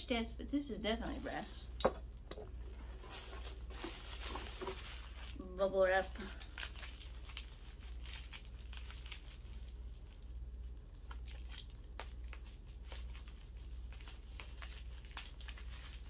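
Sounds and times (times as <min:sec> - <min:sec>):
plastic crinkling: 0:01.0 - 0:01.7, 0:02.6 - 0:16.0
bubble wrap popping: 0:03.0 - 0:16.0.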